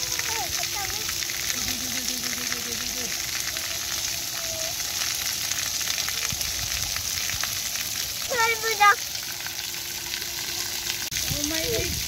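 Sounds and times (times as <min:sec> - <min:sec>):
fountain jets spraying water: 0:00.0 - 0:12.0.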